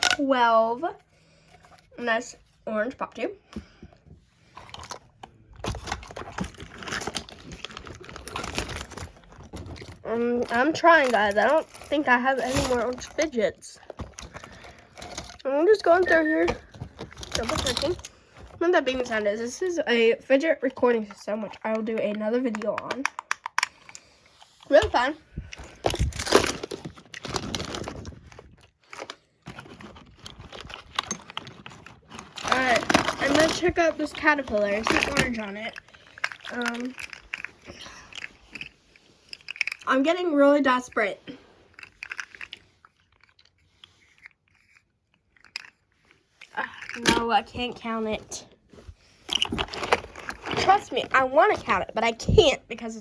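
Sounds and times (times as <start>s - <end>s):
plastic toys clicking and rustling: 0.0s - 0.7s, 1.4s - 53.0s.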